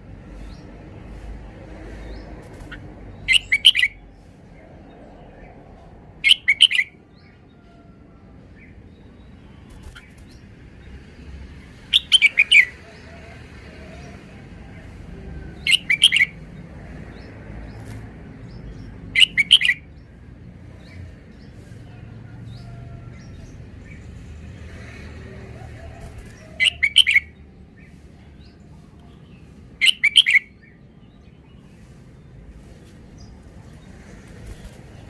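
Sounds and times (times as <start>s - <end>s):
bird song phrases: 0.3s - 11.3s, 11.9s - 13.1s, 13.8s - 35.0s.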